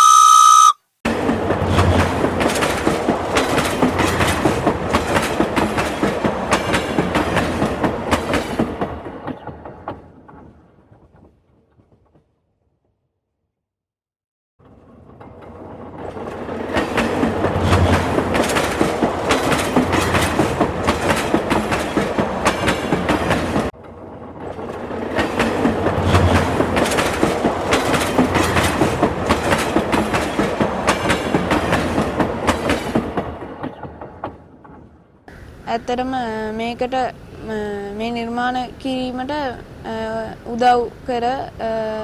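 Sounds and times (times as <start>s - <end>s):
train wheels clattering on rails: 1.1s - 12.5s, 14.6s - 37.1s.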